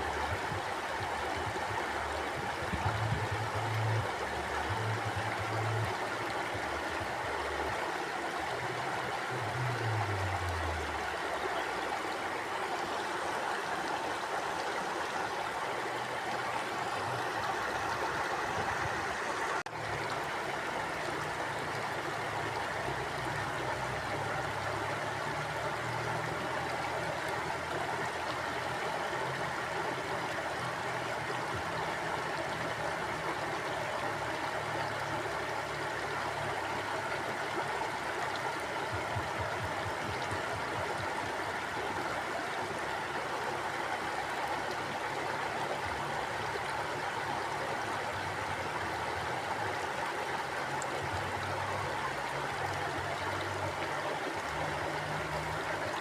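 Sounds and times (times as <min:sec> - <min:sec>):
stream burbling over stones: 0:00.0 - 0:56.0.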